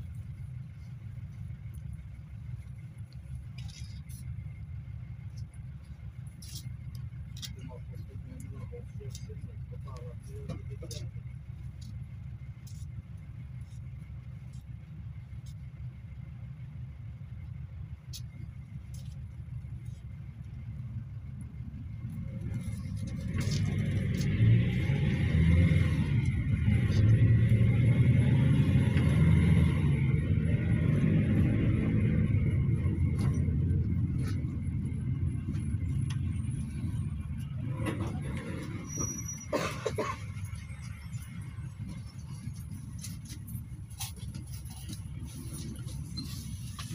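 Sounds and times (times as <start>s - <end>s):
minibus engine idling rumble: 0.0s - 46.9s.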